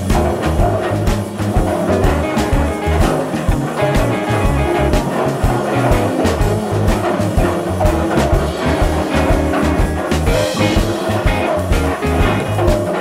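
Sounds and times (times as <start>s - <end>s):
background music with drums: 0.0s - 13.0s.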